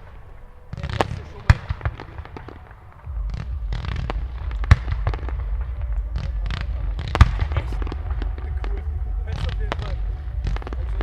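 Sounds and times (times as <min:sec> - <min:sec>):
low rumble: 0:00.0 - 0:11.0
fireworks bursts and bangs: 0:00.7 - 0:11.0.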